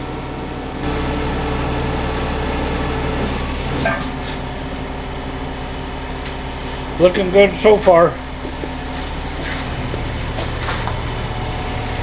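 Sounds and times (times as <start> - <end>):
truck engine idling: 0.0 - 12.0
winch pulling in: 0.9 - 12.0.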